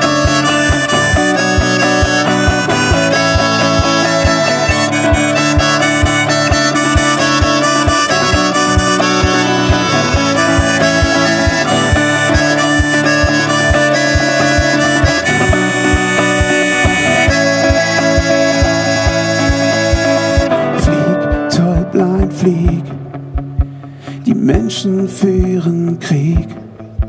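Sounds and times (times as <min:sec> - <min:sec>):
harmonica playing: 0:00.0 - 0:22.6
steady low beat: 0:00.0 - 0:23.9
strummed acoustic guitar: 0:00.0 - 0:27.0.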